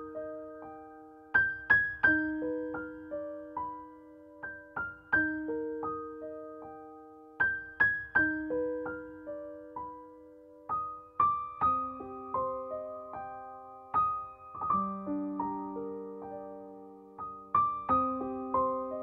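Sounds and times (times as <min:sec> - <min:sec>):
gentle keyboard melody: 0:00.0 - 0:19.0.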